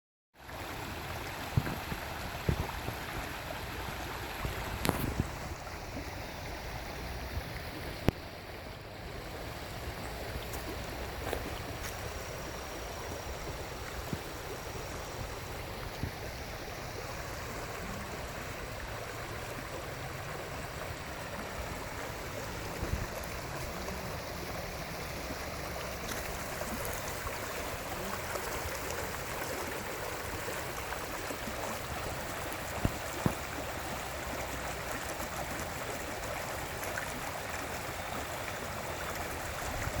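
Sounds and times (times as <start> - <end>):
brook bubbling and flowing: 0.4 - 40.0.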